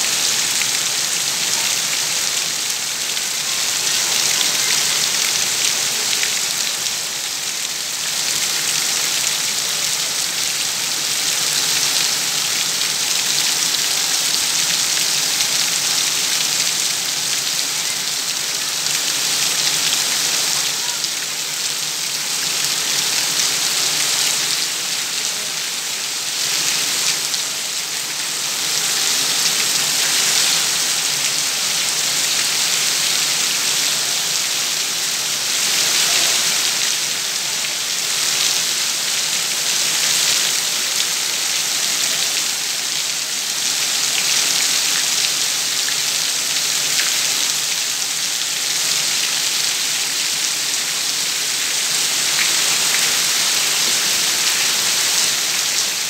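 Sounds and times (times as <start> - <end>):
heavy rain on puddles: 0.0 - 56.0.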